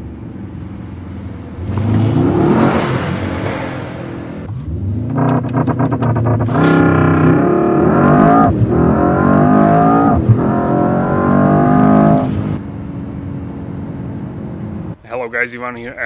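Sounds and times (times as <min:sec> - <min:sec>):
gear upshifts: 0:00.0 - 0:12.9
car engine accelerating: 0:00.0 - 0:15.0.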